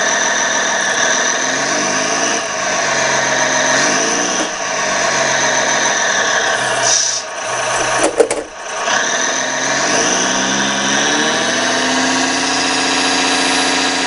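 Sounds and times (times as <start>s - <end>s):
steady high whine: 0.0s - 12.8s
simulated diesel engine sound: 0.0s - 14.0s.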